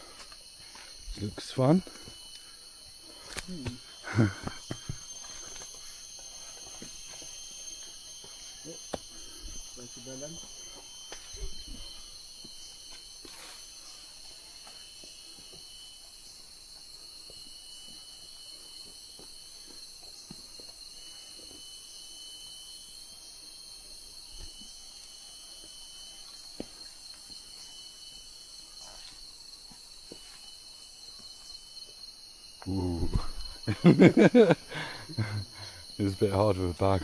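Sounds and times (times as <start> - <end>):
insect chorus drone: 0.0 - 37.0.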